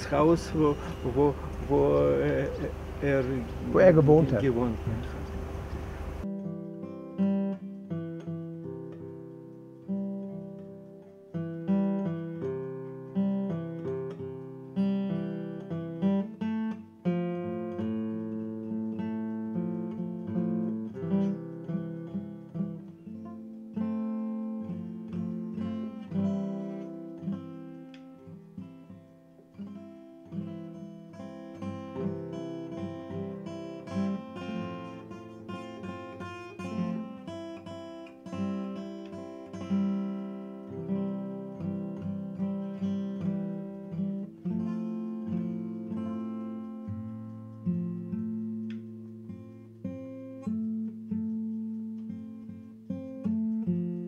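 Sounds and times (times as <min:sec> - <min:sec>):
acoustic guitar music: 0:00.0 - 0:54.0.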